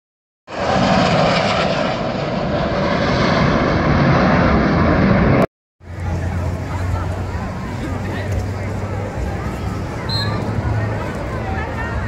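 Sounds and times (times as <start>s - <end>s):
jet engines flying past: 0.5s - 12.0s.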